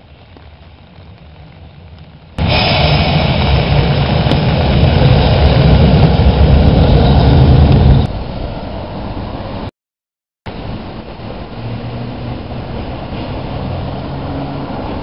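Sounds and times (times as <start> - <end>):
streetcar rumbling: 0.1 - 9.7, 10.5 - 15.0.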